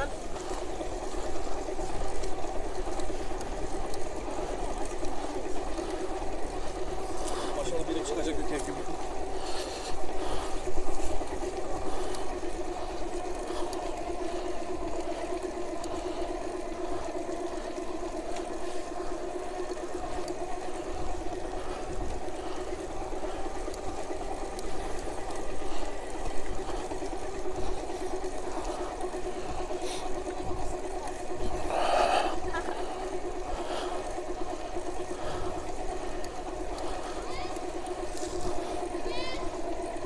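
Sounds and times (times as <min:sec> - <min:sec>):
electric bike motor whining: 0:00.0 - 0:40.0.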